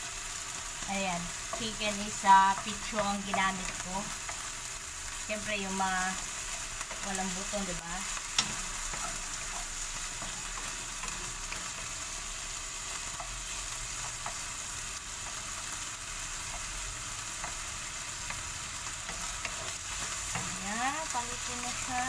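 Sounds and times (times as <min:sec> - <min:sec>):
chicken sizzling in frying pan: 0:00.0 - 0:22.0.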